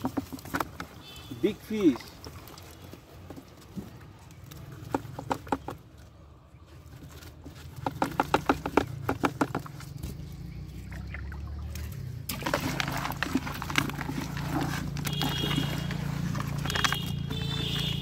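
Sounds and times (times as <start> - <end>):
fish flapping in plastic bucket: 0.0 - 6.2, 6.8 - 10.4, 11.0 - 18.0
hands rummaging through wet fish: 0.0 - 18.0.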